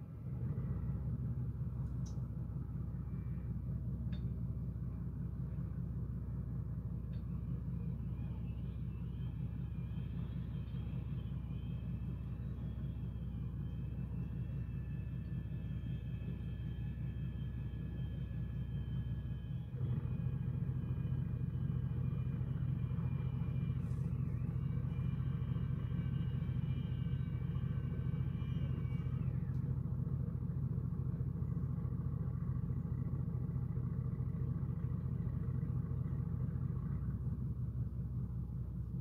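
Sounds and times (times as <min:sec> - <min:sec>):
engine idling with low hum: 0:00.0 - 0:39.0.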